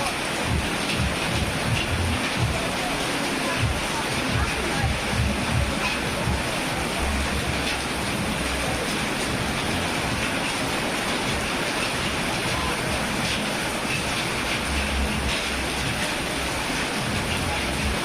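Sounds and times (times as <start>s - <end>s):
rain on roofs: 0.0s - 18.0s
water dripping: 0.0s - 18.0s.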